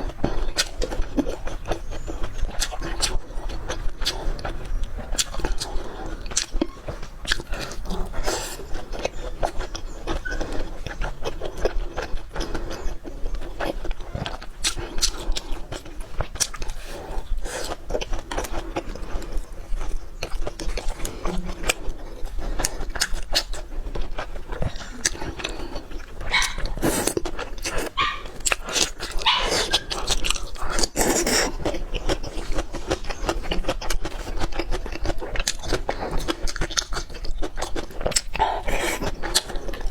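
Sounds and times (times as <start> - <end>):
chewing and lip smacking: 0.0 - 39.9.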